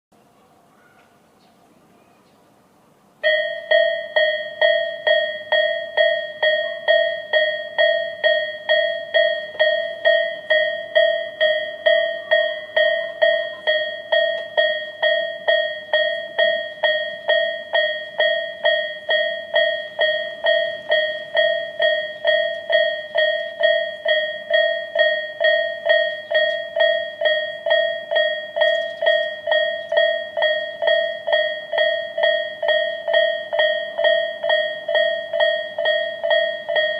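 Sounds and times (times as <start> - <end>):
level crossing warning bell: 3.2 - 36.9.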